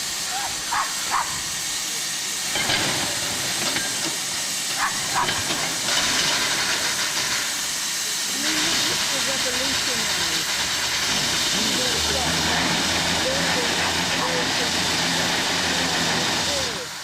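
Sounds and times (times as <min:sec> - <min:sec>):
steam shovel hissing steam: 0:00.0 - 0:17.0.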